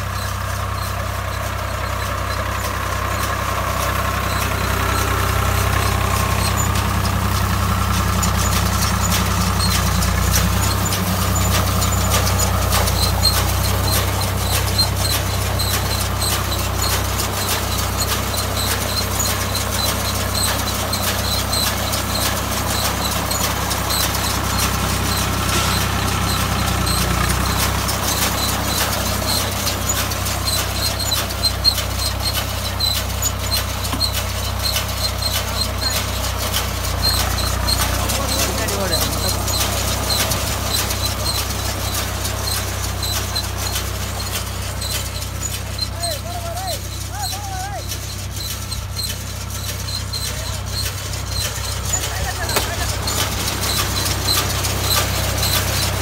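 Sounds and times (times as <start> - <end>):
tractor diesel engine running: 0.0 - 56.0
light regular ticking: 0.1 - 56.0.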